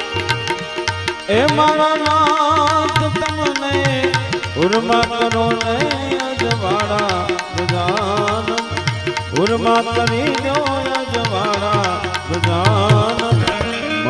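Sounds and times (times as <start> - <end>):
harmonium: 0.0 - 14.0
man singing: 0.0 - 14.0
tabla rhythm: 0.0 - 14.0.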